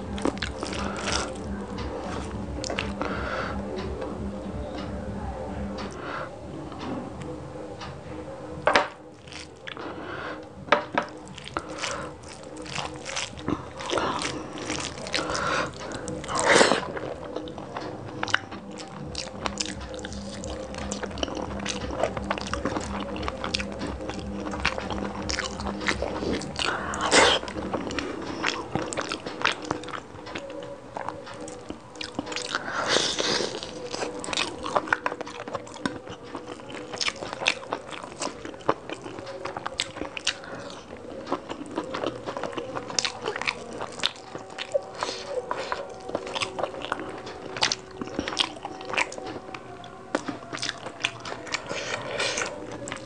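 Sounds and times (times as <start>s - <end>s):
fingers squishing food: 0.0s - 4.0s, 8.9s - 53.0s
wet chewing: 0.0s - 4.1s, 8.7s - 53.0s.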